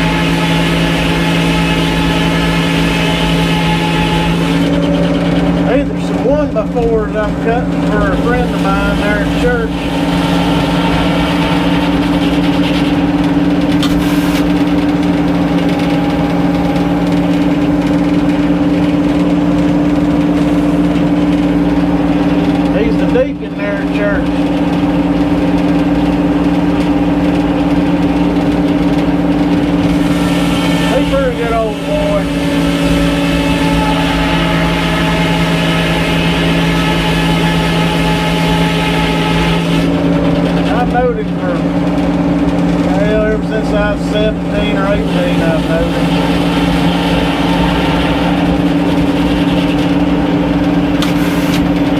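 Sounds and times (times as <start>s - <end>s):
sawmill machinery humming: 0.0s - 51.9s.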